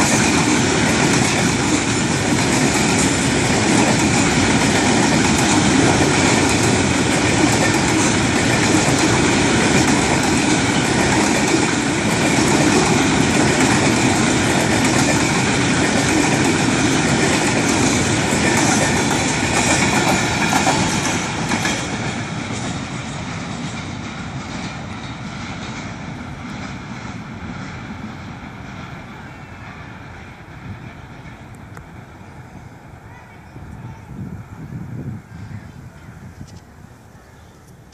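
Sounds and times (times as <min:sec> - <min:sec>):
freight train wheels on rails: 0:00.0 - 0:36.8.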